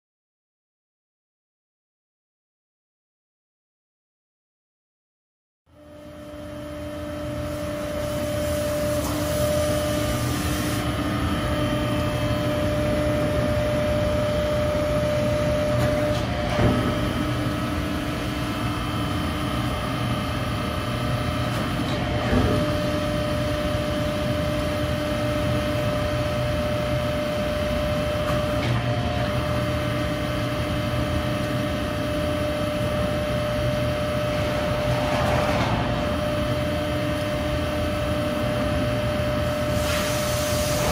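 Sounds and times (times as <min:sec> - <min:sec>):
hydraulic pump humming: 0:06.4 - 0:40.9.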